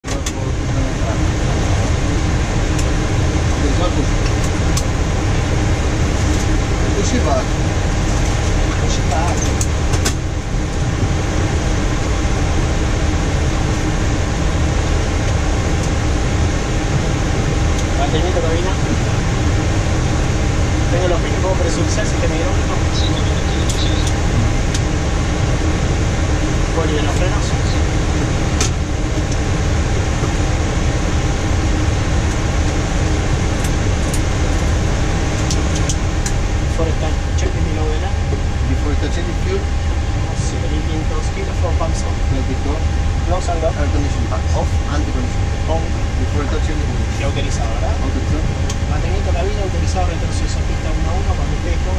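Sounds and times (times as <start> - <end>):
air-conditioning ventilation noise: 0.0 - 51.9
low rumble: 0.0 - 51.9.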